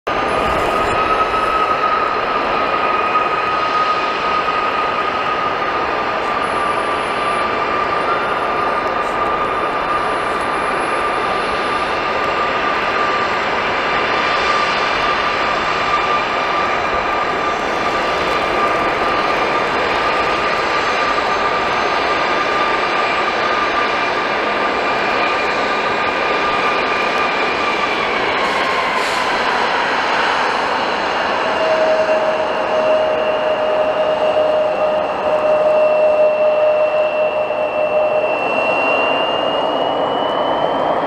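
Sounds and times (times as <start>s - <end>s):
jet engines whining: 0.1s - 41.0s.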